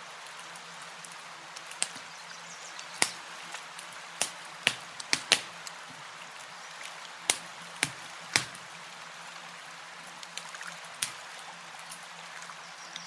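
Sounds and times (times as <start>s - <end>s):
campfire wood crackling: 0.0s - 13.0s
soft hiss of fire: 0.0s - 13.0s.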